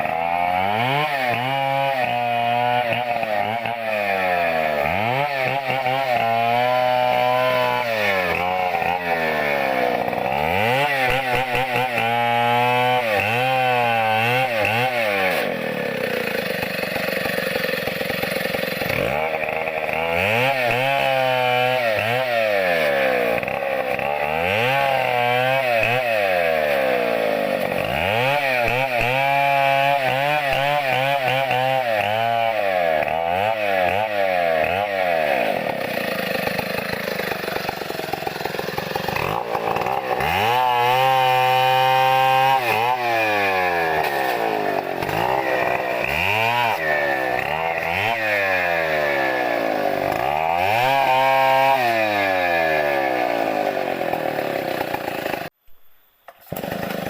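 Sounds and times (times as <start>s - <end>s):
chainsaw cutting into palm trunk: 0.0s - 55.6s, 56.3s - 57.0s.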